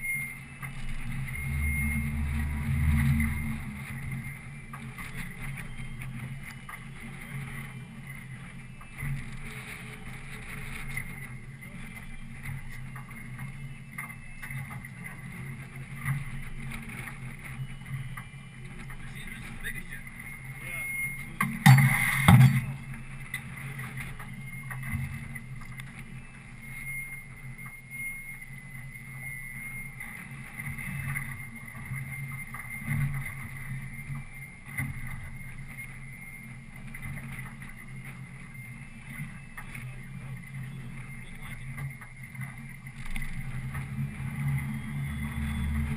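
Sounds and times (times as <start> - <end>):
boat engine humming: 0.0 - 45.9.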